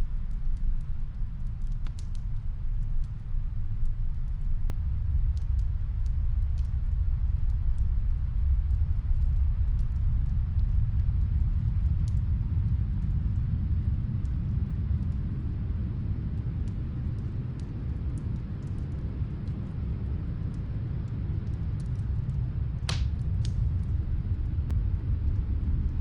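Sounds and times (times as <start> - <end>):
snowstorm wind low rumble: 0.0 - 26.0
wood fire crackling: 0.0 - 26.0.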